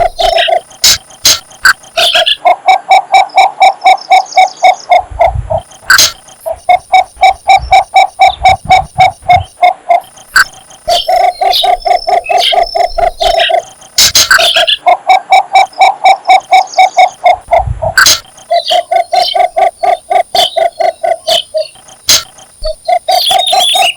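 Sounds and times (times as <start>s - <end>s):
bird low hollow calls: 0.0s - 23.9s.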